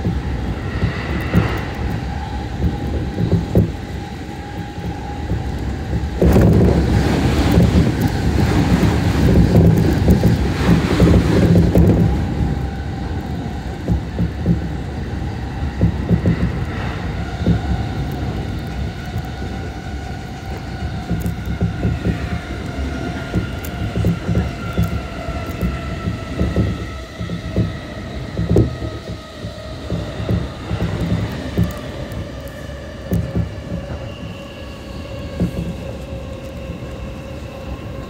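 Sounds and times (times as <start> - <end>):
freight train running: 0.0 - 38.0
passing train rush: 0.0 - 38.0
rail-joint clicks: 0.0 - 38.0
train motor whine: 0.0 - 38.0.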